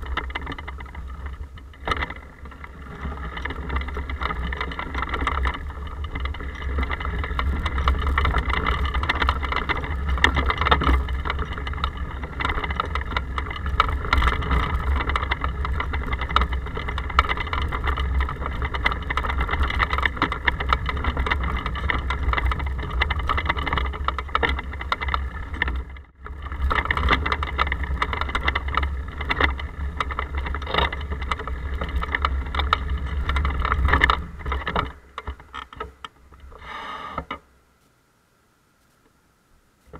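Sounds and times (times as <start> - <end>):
bicycle riding rumble: 0.0 - 37.5
small knocks and rattles: 0.0 - 37.5.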